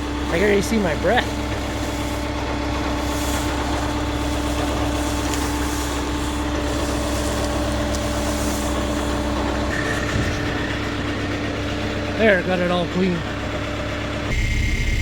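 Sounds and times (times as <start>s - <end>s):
engine humming: 0.0s - 15.0s
high whine: 0.0s - 15.0s.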